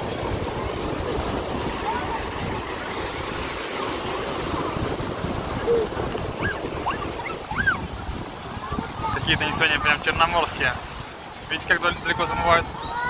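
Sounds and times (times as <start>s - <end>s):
waves breaking on beach: 0.0s - 13.0s
wind on microphone: 0.0s - 13.0s.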